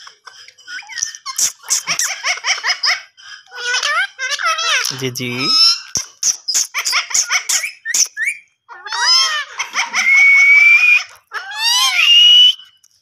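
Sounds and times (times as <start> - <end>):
parakeet calling: 0.2 - 12.5.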